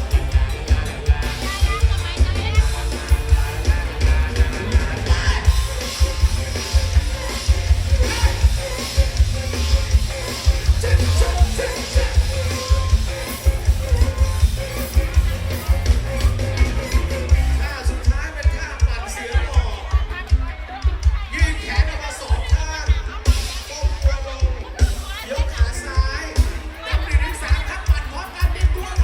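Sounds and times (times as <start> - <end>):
bass line: 0.0 - 24.1
live band music through a pa: 0.0 - 29.0
vocals: 0.0 - 29.0.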